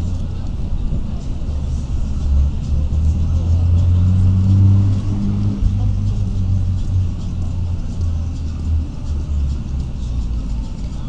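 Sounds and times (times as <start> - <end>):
busy city street rumble: 0.0 - 11.0.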